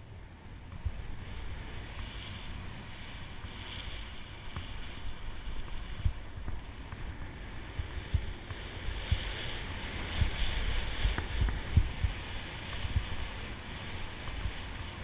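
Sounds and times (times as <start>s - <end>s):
steady hiss: 0.0s - 15.0s
wind buffeting microphone: 0.0s - 15.0s.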